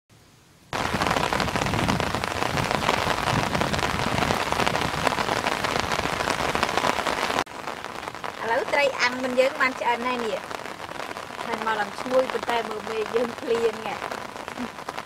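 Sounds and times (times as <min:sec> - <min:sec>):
rain on an umbrella: 0:00.7 - 0:15.0.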